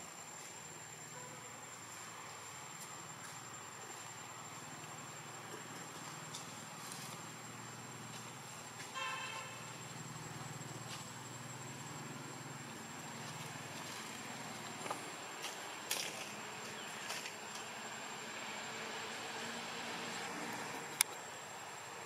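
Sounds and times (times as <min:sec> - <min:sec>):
insects: 0:00.0 - 0:22.0.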